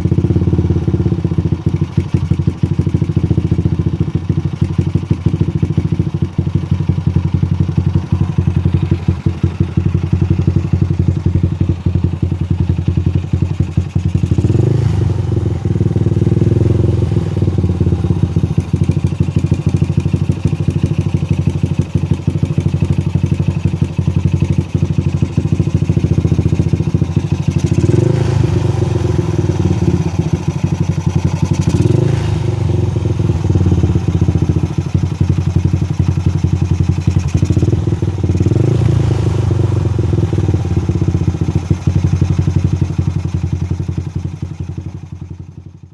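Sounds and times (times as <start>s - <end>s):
motorcycle engine idling: 0.0s - 45.9s
motorcycle throttle blips: 4.6s - 45.6s.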